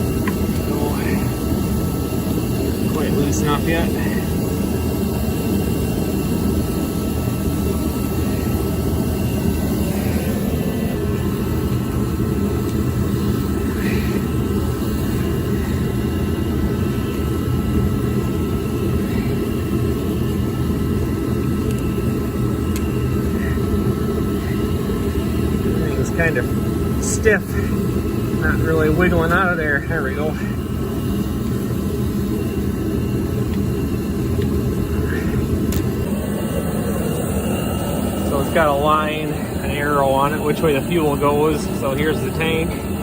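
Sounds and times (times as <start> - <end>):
heater fan and burner roar: 0.0 - 43.0.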